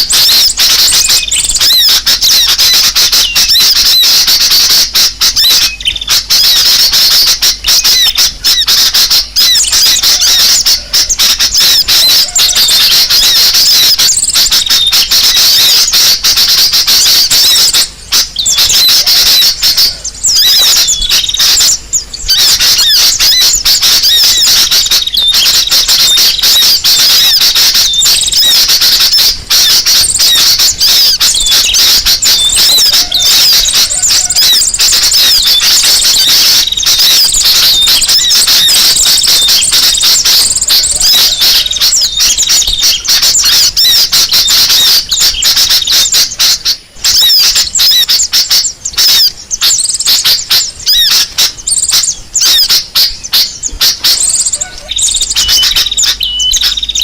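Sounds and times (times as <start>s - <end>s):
many small birds chirping: 0.0s - 57.0s.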